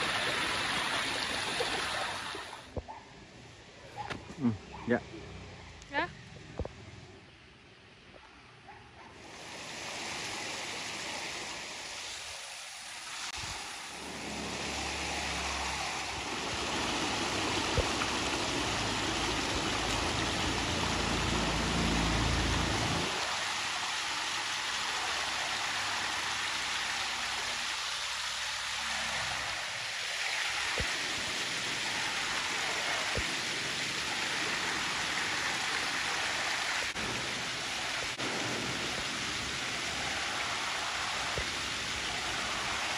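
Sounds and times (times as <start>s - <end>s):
stream flowing over rocks: 0.0s - 2.8s, 9.2s - 42.9s.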